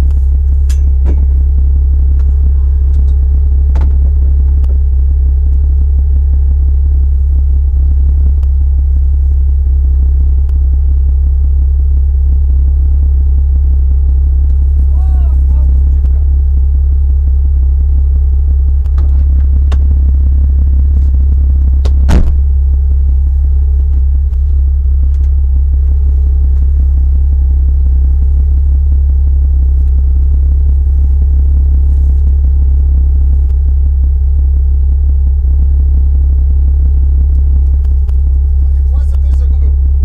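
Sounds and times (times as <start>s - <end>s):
vehicle engine rumble from cabin: 0.0s - 40.0s.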